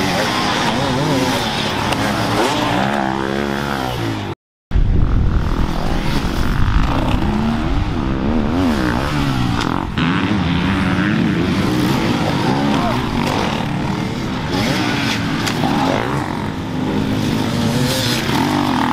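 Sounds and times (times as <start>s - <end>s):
dirt bike engines revving: 0.0s - 4.4s, 5.0s - 18.9s.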